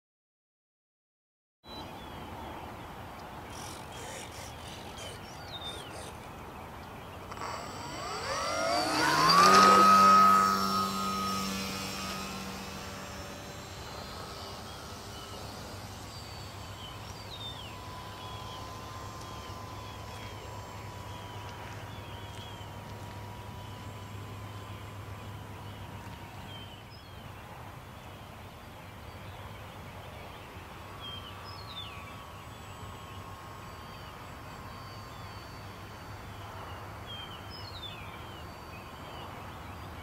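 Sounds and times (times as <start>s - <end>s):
birds chirping: 1.7s - 40.0s
model airplane motor whine: 3.4s - 40.0s.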